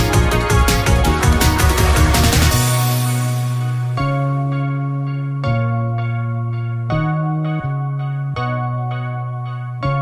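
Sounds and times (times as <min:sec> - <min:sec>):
instrumental music with held notes: 0:00.0 - 0:10.0.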